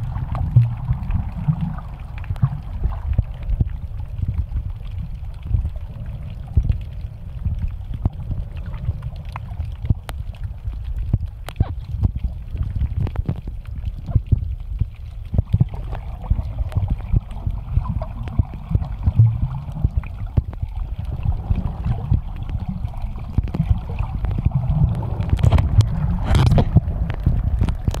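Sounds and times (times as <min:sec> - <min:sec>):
muffled underwater water rumble: 0:00.0 - 0:28.0
underwater clicks and crackles: 0:00.0 - 0:28.0.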